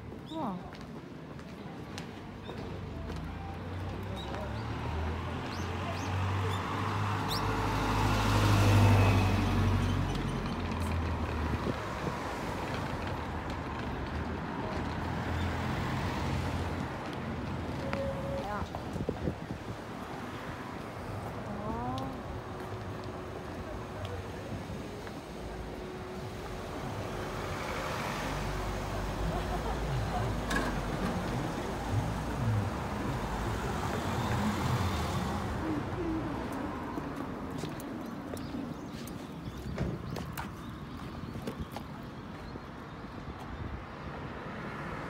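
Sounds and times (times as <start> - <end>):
traffic rumble: 0.0 - 45.0
cars driving past: 3.2 - 41.0.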